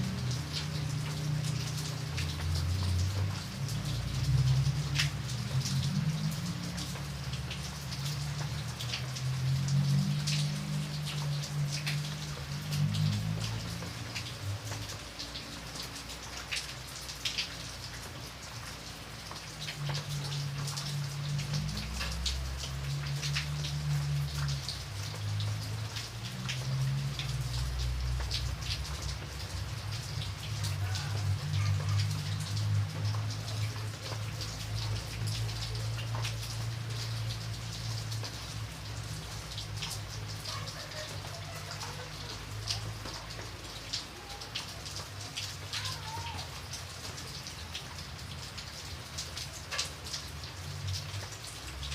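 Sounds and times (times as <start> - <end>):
rain patter: 0.0 - 51.9.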